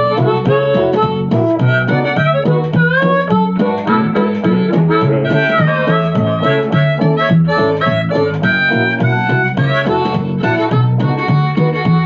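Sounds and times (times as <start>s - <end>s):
acoustic guitar strumming: 0.0s - 12.0s
amplified harmonica solo: 0.0s - 12.0s
pulsing bass line: 0.0s - 12.0s.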